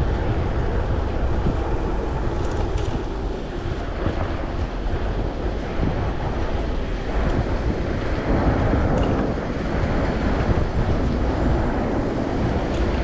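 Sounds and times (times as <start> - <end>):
bicycle road rumble: 0.0 - 13.0
wind noise on microphone: 0.0 - 13.0.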